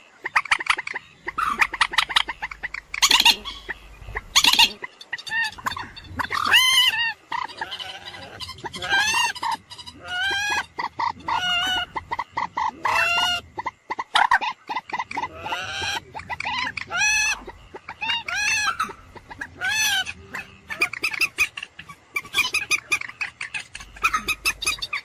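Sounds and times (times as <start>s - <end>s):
moorhen calling: 0.0s - 25.0s.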